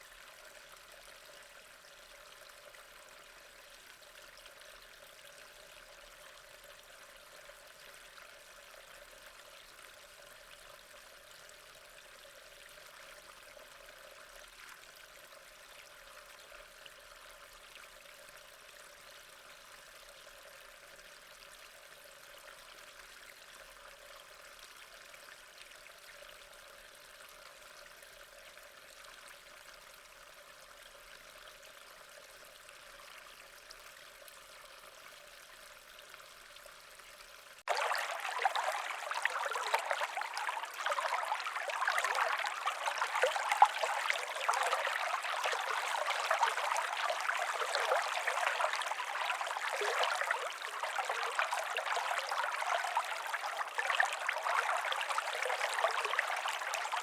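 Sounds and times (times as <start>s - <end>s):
running stream water: 0.0s - 57.0s.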